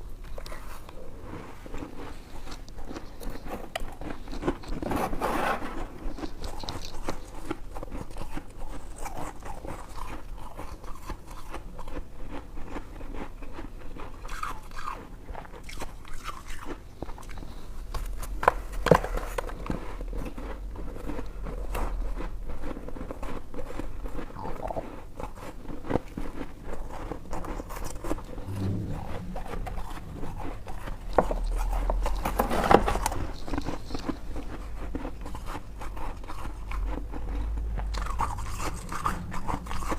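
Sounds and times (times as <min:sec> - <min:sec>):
chewing ice crunching: 0:00.0 - 0:28.4, 0:29.9 - 0:39.9.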